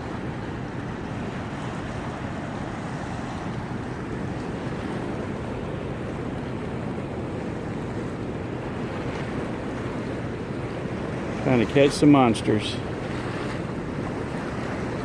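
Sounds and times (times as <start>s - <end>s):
fast-flowing river water rushing: 0.0s - 15.0s.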